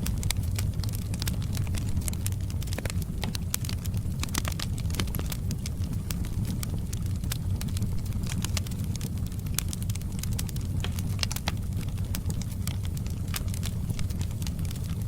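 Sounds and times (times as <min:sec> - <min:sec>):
low rumble: 0:00.0 - 0:15.0
wood fire crackling and popping: 0:00.0 - 0:15.0.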